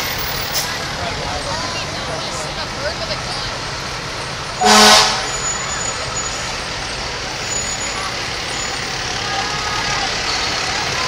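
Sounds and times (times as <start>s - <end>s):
fire engine diesel engine: 0.0s - 11.0s.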